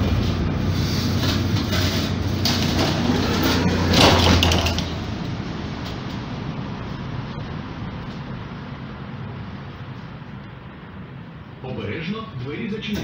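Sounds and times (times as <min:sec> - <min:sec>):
tram doors clattering: 0:00.0 - 0:11.6
tram low hum: 0:00.0 - 0:13.0.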